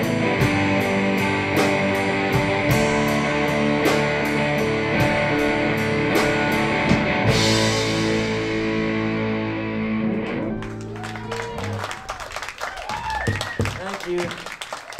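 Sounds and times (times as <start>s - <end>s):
rock band playing: 0.0s - 14.4s.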